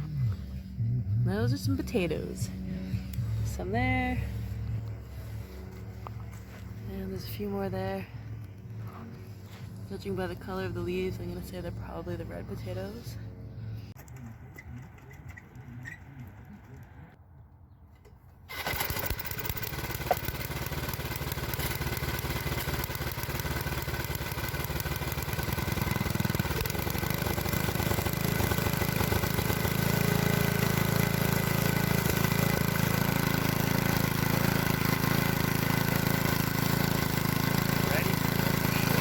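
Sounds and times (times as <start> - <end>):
small engine running: 0.0 - 17.2, 18.5 - 39.0.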